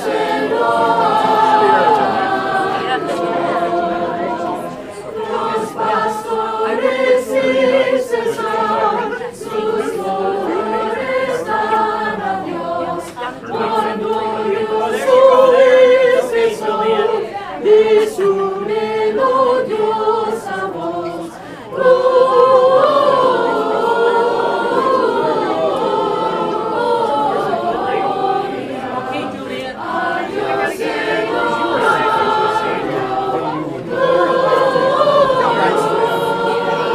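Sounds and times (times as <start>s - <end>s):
choir singing in harmony: 0.0s - 36.9s.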